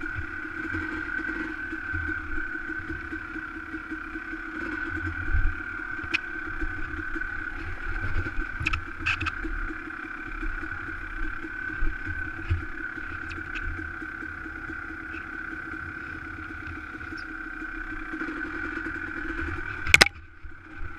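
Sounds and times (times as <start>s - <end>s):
dirt bike engine running: 0.0s - 20.9s.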